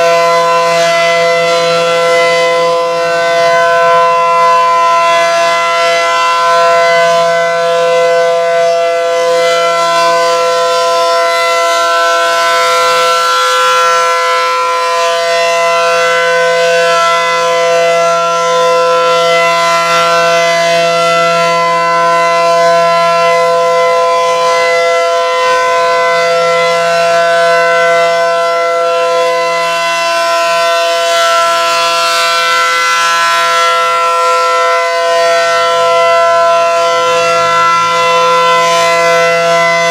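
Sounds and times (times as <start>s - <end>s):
loud multi-pitch warning siren: 0.0s - 39.9s.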